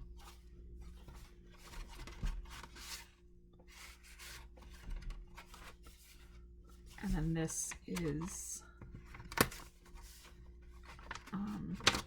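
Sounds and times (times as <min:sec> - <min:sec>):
paper pages rustling: 0:00.1 - 0:12.0.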